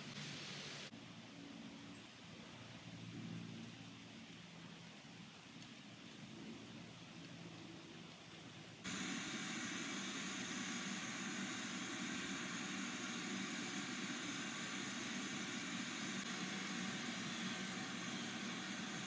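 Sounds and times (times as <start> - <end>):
low rumble with hiss: 0.0 - 19.0.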